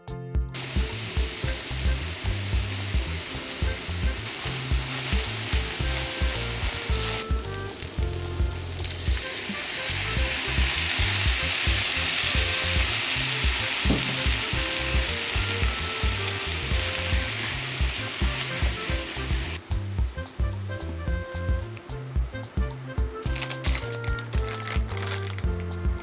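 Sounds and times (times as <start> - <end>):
background music with steady beat: 0.0 - 26.0
noodles sizzling in a pan: 0.6 - 19.6, 23.3 - 25.4.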